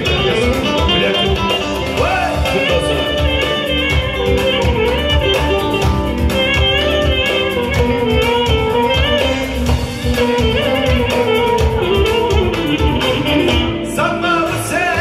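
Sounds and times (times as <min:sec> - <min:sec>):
plucked string instrument melody: 0:00.0 - 0:14.1
bass: 0:00.0 - 0:15.0
steady beat: 0:00.0 - 0:15.0.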